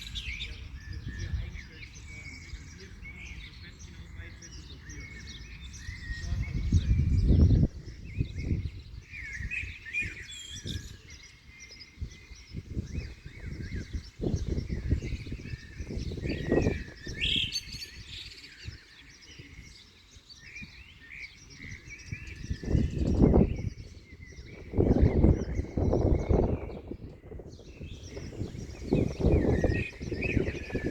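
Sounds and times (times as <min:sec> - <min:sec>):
wind gusting over microphone: 0:00.0 - 0:11.2, 0:11.9 - 0:19.8, 0:21.6 - 0:30.9
small birds chirping: 0:00.0 - 0:30.9.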